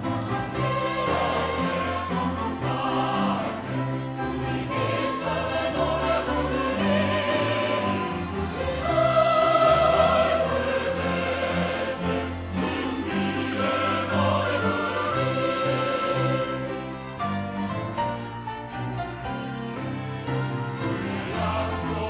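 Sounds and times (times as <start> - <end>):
choir singing a hymn: 0.0 - 18.4, 19.2 - 22.0
piano: 0.0 - 22.0
string ensemble: 0.0 - 22.0.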